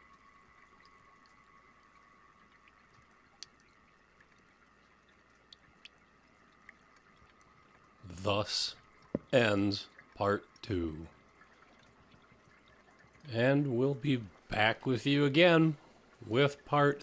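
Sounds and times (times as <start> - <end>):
faint high hum: 0.0 - 17.0.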